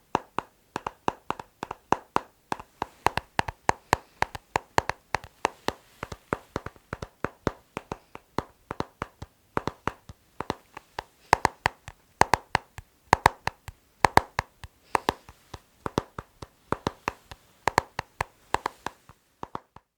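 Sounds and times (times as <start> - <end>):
rhythmic tapping on hard object: 0.0 - 19.9.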